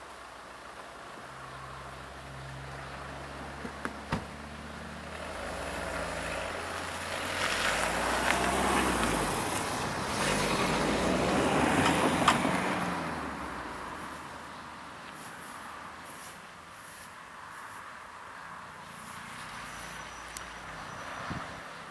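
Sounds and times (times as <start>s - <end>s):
road vehicle passing by: 0.2s - 21.9s.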